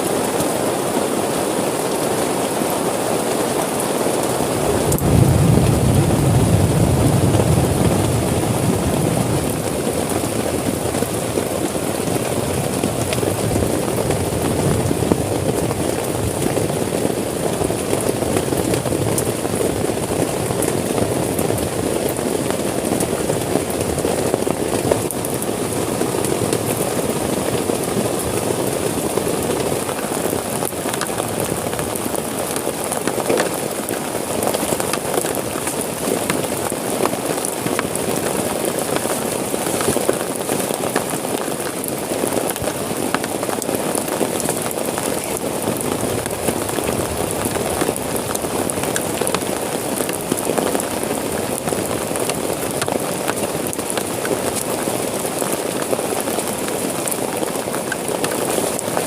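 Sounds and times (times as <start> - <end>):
heavy rain on a tent: 0.0 - 59.0.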